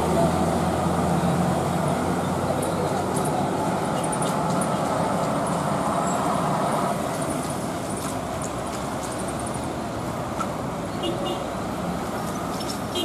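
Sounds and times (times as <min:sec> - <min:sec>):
cars passing: 0:00.0 - 0:13.0
truck diesel engines running: 0:00.0 - 0:13.0.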